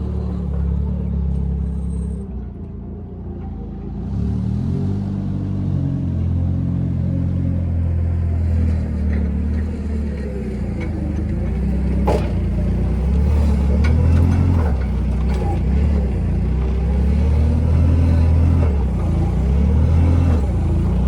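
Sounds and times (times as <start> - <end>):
engine running at low speed: 0.0 - 21.0.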